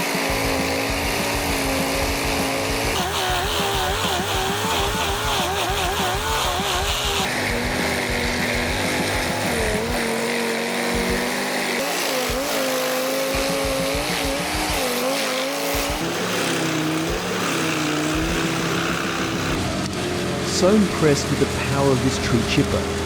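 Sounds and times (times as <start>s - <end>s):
wood being chipped grinding: 0.0s - 23.0s
wood chipper engine under load: 0.0s - 23.0s.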